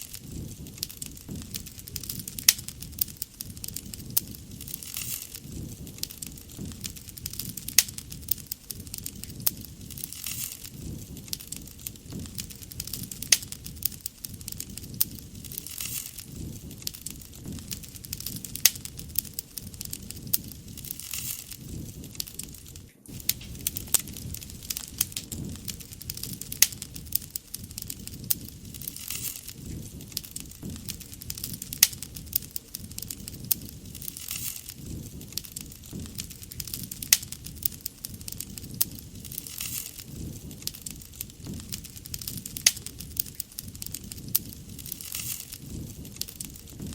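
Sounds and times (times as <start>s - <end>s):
low rushing of burning fire: 0.0s - 46.9s
wood fire crackling and popping: 0.0s - 46.9s.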